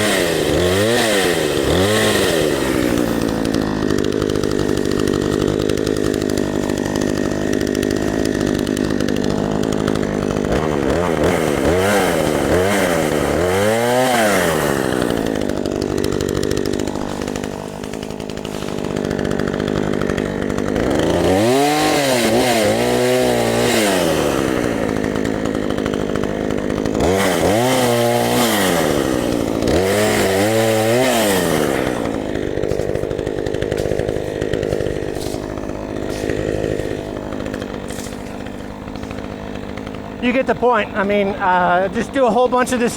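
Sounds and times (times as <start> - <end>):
chainsaw idling and revving: 0.0 - 42.9.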